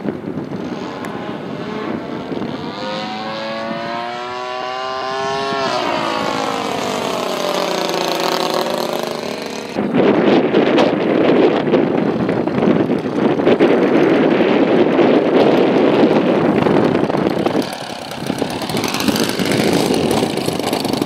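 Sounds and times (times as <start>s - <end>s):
wind noise on microphone: 0.0s - 21.0s
model plane engine buzzing: 0.4s - 10.1s, 11.2s - 21.0s.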